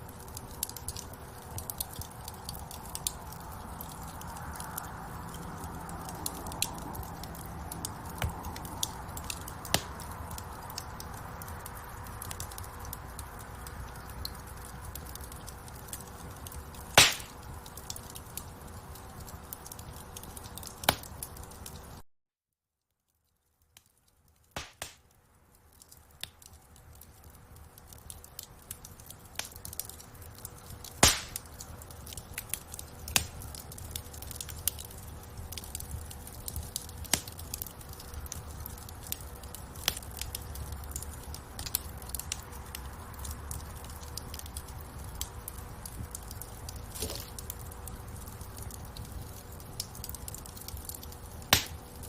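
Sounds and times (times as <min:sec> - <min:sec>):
fire crackling and popping: 0:00.0 - 0:22.0, 0:23.1 - 0:52.0
flames rumbling: 0:00.0 - 0:22.0, 0:25.6 - 0:52.0.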